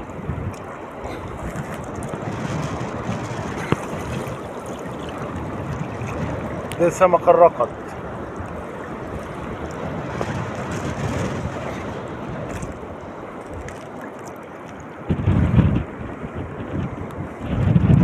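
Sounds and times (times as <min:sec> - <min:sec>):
wind and sea water rushing: 0:00.0 - 0:18.0
wind buffeting microphone: 0:00.0 - 0:18.0.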